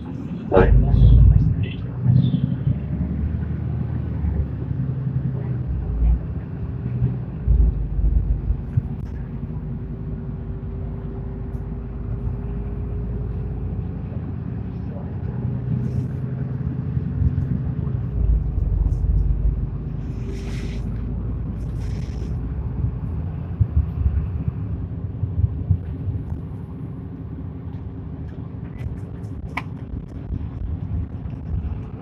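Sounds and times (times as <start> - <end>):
bus engine rumble: 0.0 - 32.0.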